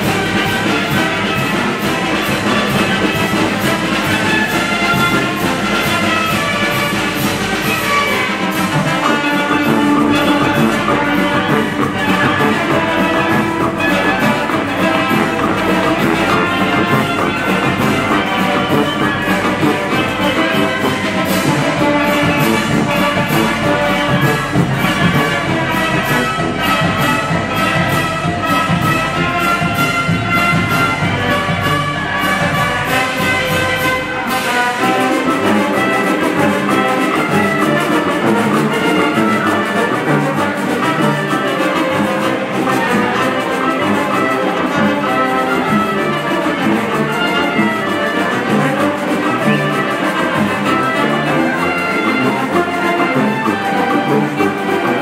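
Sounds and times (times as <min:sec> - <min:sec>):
brass band playing: 0:00.0 - 0:55.0
percussion beat: 0:00.0 - 0:55.0.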